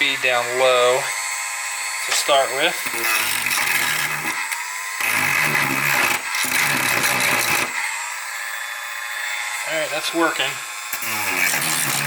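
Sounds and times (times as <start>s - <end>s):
rotary tool grinding: 0.3s - 12.0s.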